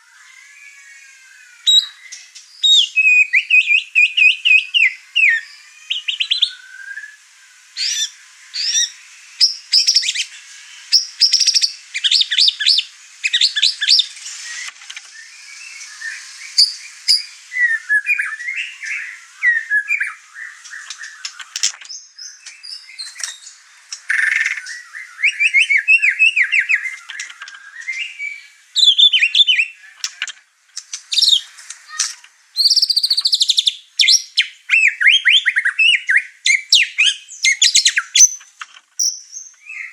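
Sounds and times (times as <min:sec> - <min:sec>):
songbird singing whistles: 0:00.0 - 0:30.2, 0:30.8 - 0:38.4, 0:39.0 - 0:39.9.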